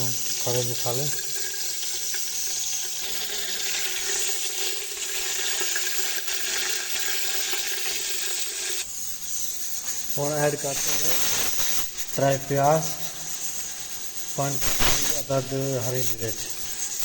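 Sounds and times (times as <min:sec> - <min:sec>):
spices sizzling in hot oil: 0:00.0 - 0:17.0.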